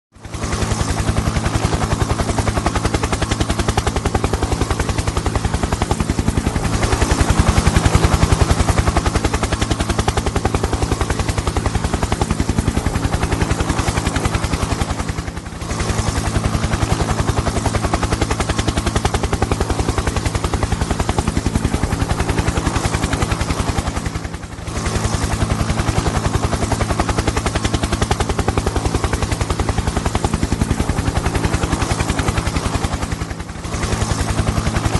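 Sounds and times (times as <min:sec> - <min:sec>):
helicopter engine drone: 0:00.2 - 0:34.9
helicopter rotor chopping: 0:00.2 - 0:34.9.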